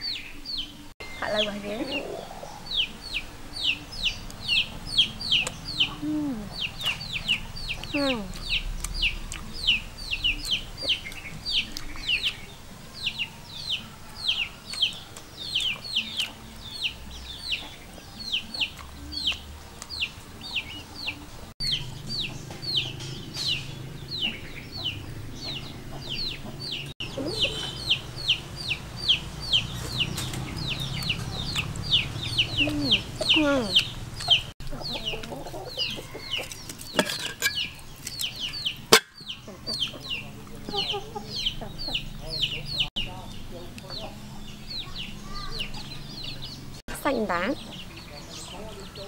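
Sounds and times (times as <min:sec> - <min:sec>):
young chickens peeping: 0:00.0 - 0:49.0.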